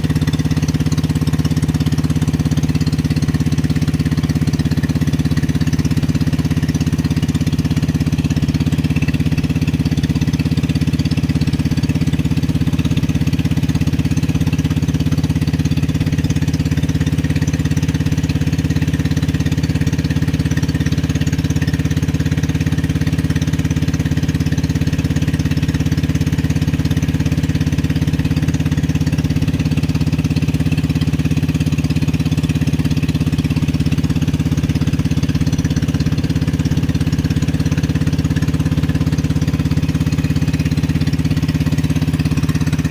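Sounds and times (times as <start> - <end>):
small boat engine running: 0.0 - 42.9.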